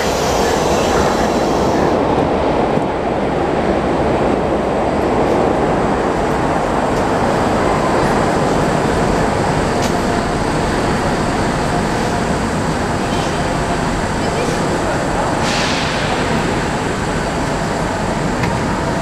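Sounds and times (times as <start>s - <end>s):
metro train wheels rumbling: 0.0s - 19.0s.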